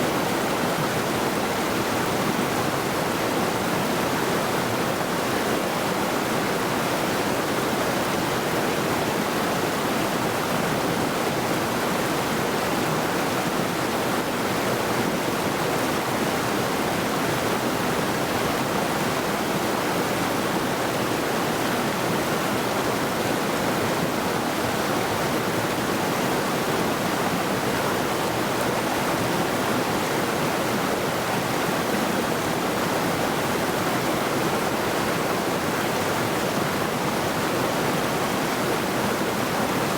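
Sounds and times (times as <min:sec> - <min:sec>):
river rushing over rocks: 0:00.1 - 0:39.9.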